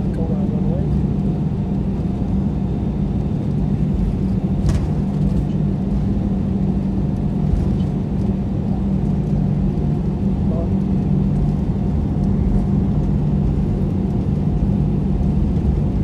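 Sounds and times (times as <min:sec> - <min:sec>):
jet engines rumbling at idle: 0:00.0 - 0:16.0.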